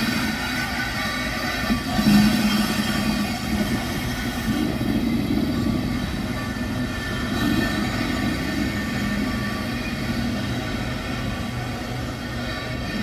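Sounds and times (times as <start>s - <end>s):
electric locomotive running: 0.0s - 13.0s
whining tones: 0.0s - 13.0s.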